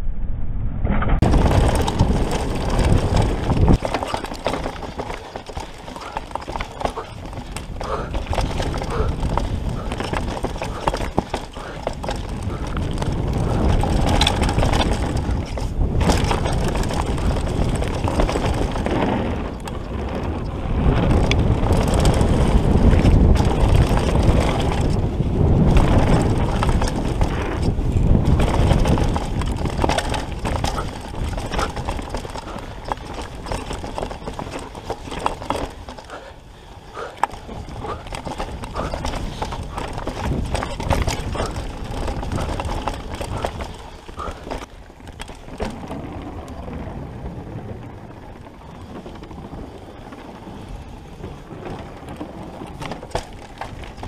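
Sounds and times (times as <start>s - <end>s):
wind noise on microphone: 0.0s - 54.0s
bike tyres rumbling on dirt: 1.1s - 54.0s
bike clattering over bumps: 1.2s - 54.0s.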